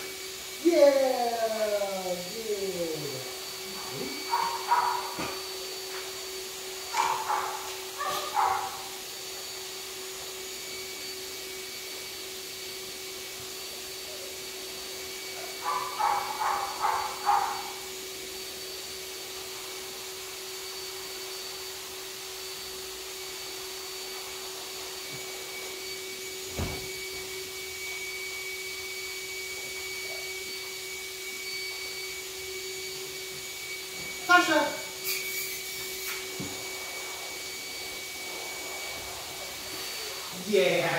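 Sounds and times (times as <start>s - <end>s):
electric motor humming: 0.0s - 40.9s.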